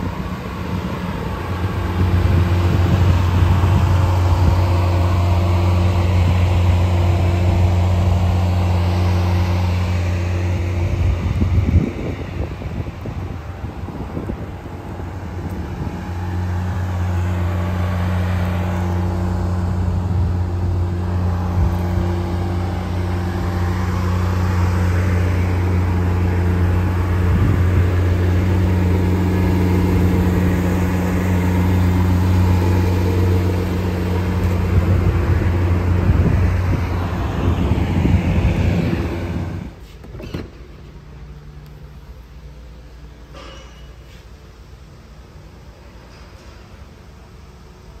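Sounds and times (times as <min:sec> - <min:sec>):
car engine idling: 0:00.0 - 0:43.4.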